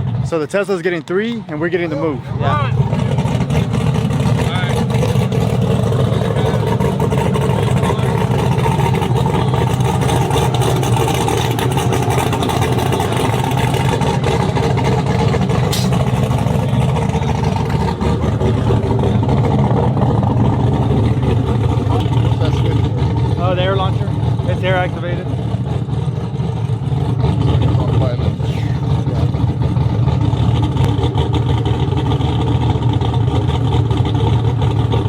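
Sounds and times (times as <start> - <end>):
truck engine rumbling steadily: 0.0 - 35.0.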